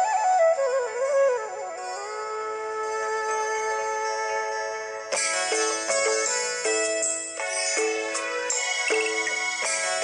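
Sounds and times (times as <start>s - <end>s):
instrumental melody of held notes: 0.0s - 10.0s.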